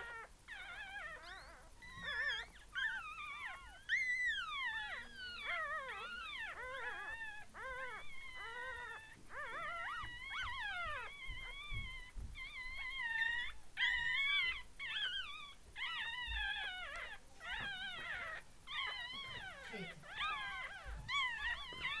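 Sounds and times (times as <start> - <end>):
puppies squealing and whining: 0.0 - 22.0.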